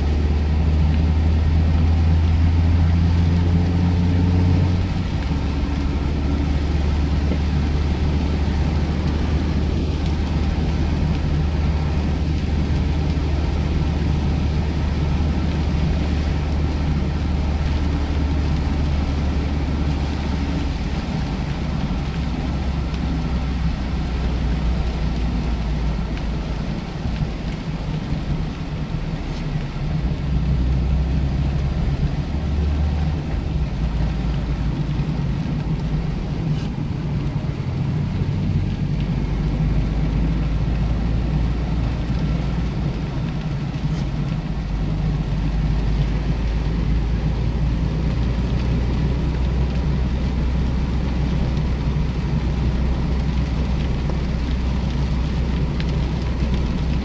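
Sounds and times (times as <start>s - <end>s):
car engine running: 0.0s - 57.0s
rain hiss: 0.0s - 57.0s
tyres on a wet road: 0.0s - 57.0s.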